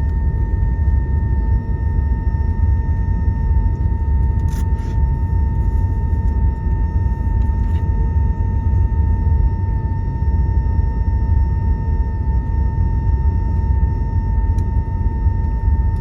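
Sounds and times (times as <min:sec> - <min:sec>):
aircraft cabin low rumble: 0:00.0 - 0:16.0
high whine of engines: 0:00.0 - 0:16.0.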